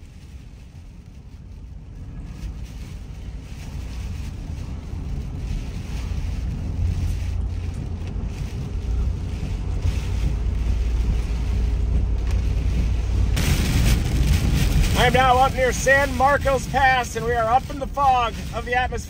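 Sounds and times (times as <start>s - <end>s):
road and wind noise in car: 0.0s - 19.0s.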